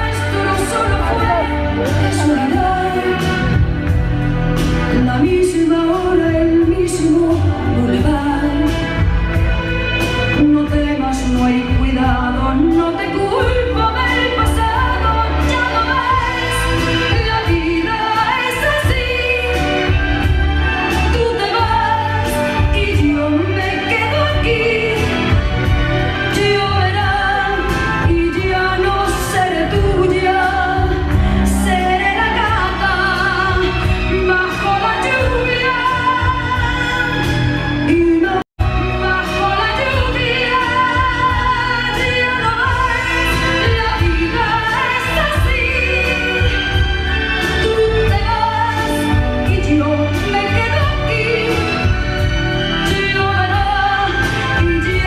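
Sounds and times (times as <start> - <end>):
bass line: 0.0 - 55.0
woman singing a ballad: 0.0 - 55.0.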